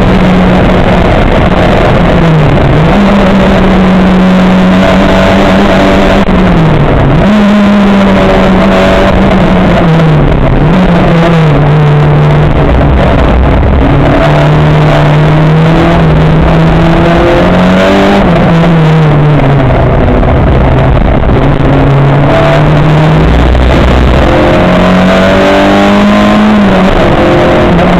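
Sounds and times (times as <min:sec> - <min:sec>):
race car engine running hard: 0:00.0 - 0:27.9.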